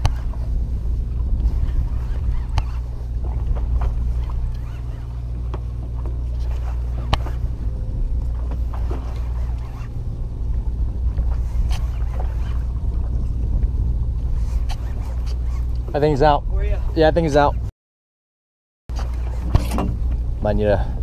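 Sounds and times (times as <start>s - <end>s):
boat engine low rumble: 0.0s - 17.7s, 18.9s - 21.0s.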